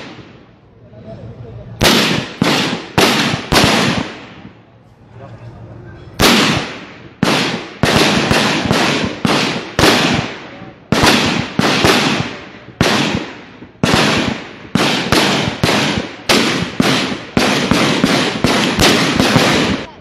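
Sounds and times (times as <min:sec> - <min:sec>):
rifle shots echoing: 0:00.0 - 0:00.5, 0:01.8 - 0:04.6, 0:06.2 - 0:20.0.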